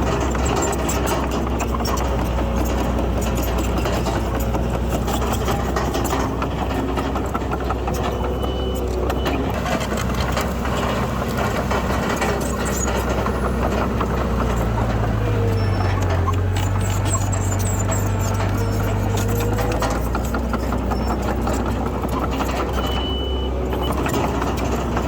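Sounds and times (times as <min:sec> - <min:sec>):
heavy diesel engine running: 0:00.0 - 0:25.0
metallic clanks and knocks: 0:00.0 - 0:25.0.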